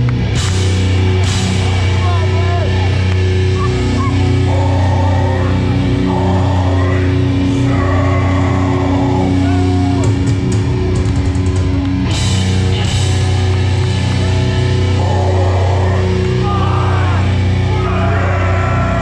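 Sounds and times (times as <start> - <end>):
crowd noise: 0.0 - 19.0
hardcore band playing live: 0.0 - 19.0.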